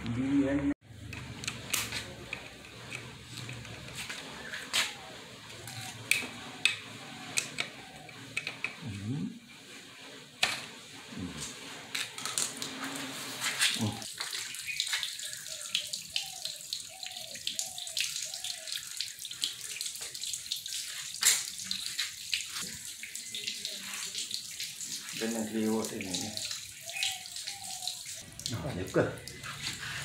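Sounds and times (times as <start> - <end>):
water pouring and splashing: 0.9 - 30.0.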